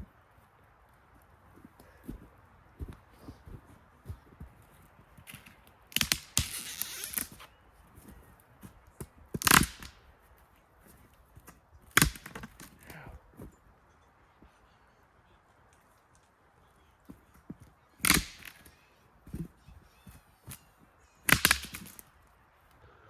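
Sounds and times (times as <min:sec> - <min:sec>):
firewood cracking: 0:00.0 - 0:13.6, 0:17.0 - 0:22.8.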